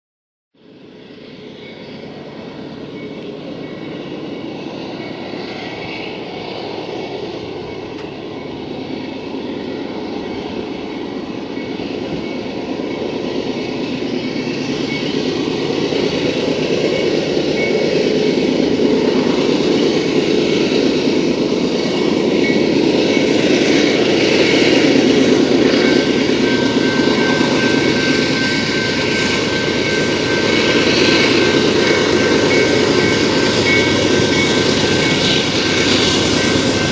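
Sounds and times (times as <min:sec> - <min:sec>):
diesel locomotives rumbling: 0:00.6 - 0:36.9.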